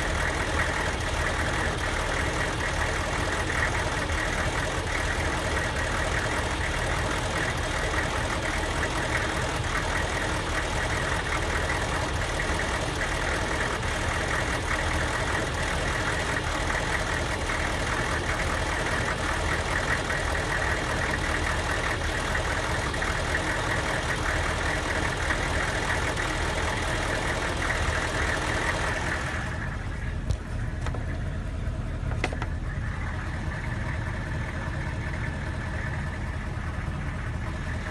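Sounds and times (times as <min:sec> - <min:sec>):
diesel engine idling with misfire: 0:00.0 - 0:37.9.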